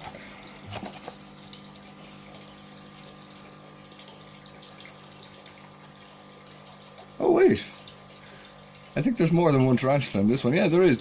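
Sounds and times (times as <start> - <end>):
pump humming and hissing: 0.0 - 11.0.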